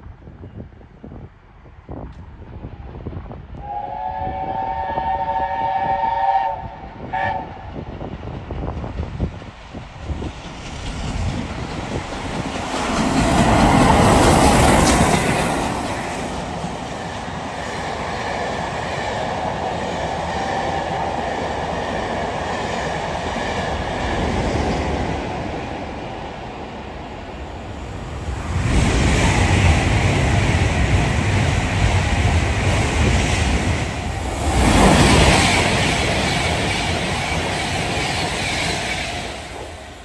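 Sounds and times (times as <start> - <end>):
steam locomotive passing: 2.5 - 40.0.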